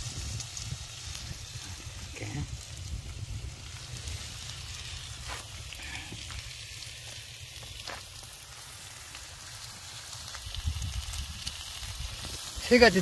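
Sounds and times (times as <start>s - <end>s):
meat sizzling on griddle: 0.0s - 13.0s.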